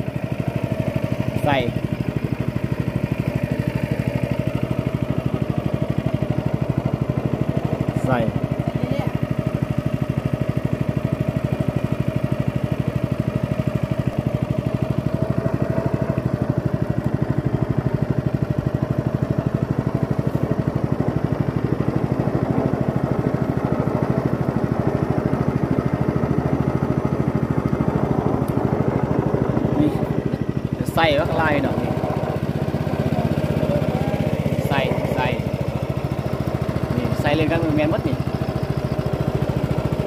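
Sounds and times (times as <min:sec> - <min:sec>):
motorboat engine chugging: 0:00.0 - 0:40.0.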